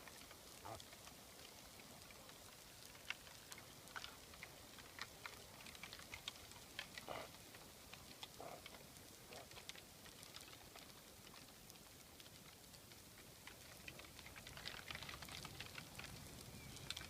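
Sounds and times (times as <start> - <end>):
faint crackling clicks: 0.0 - 17.0.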